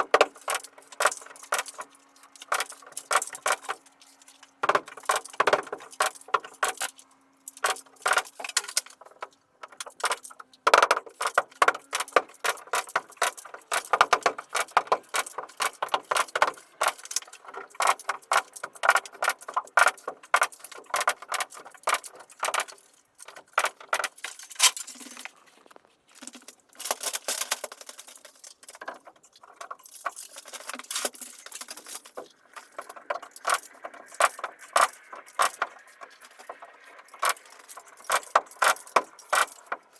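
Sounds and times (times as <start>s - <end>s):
carpentry clicking and clattering: 0.0s - 39.9s.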